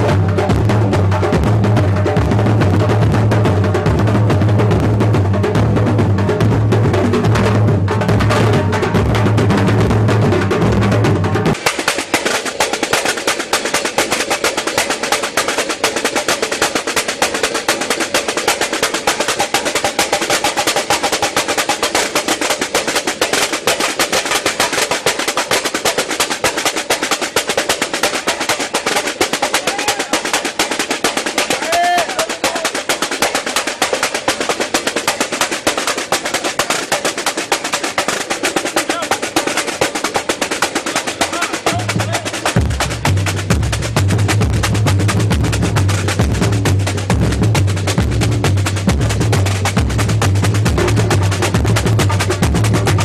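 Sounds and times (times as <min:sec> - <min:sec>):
samba drums over loudspeakers: 0:00.0 - 0:53.0.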